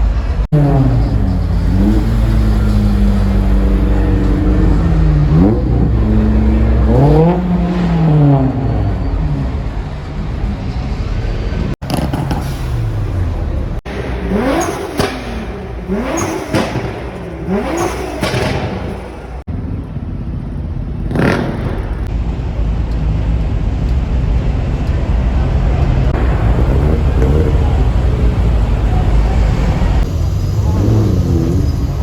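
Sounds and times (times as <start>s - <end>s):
deep exhaust rumble: 0.0s - 32.0s
car exhaust revving: 0.4s - 19.5s, 24.6s - 32.0s.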